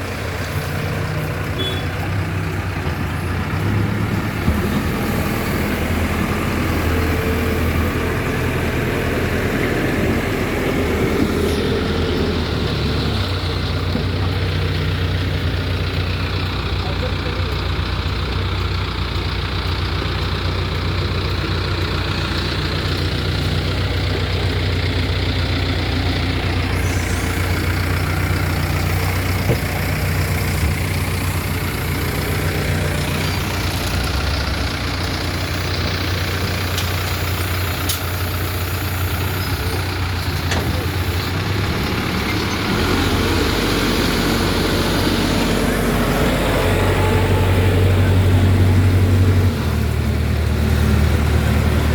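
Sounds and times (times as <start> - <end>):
heavy diesel engine running: 0.0 - 51.9.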